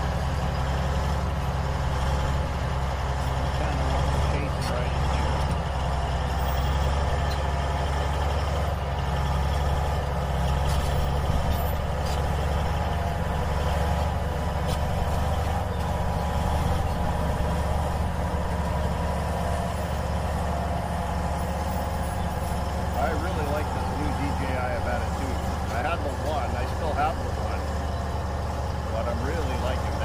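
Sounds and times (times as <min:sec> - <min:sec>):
heavy engine idling: 0:00.0 - 0:30.0.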